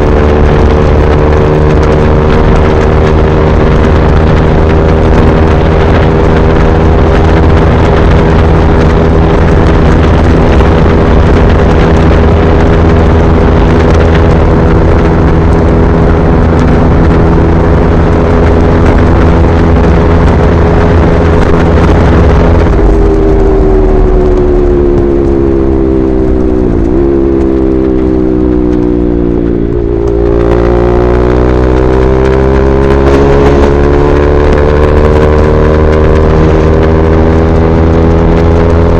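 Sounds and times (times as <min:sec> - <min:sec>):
motorcycle engine: 0:00.0 - 0:38.9
wind rush: 0:00.0 - 0:38.9.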